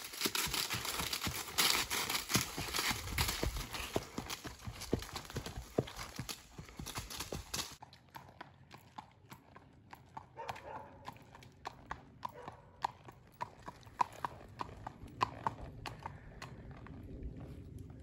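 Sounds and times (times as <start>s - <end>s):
horse hooves on pavement: 0.0s - 18.0s.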